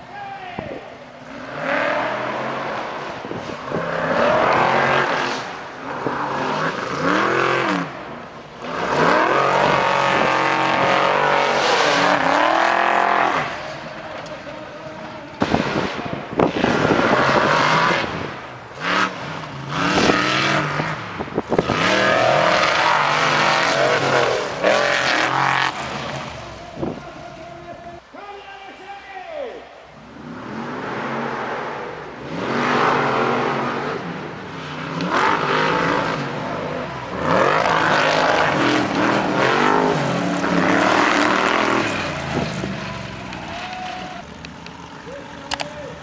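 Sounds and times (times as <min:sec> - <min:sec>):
racing truck engines revving: 0:00.0 - 0:28.2, 0:29.8 - 0:46.0.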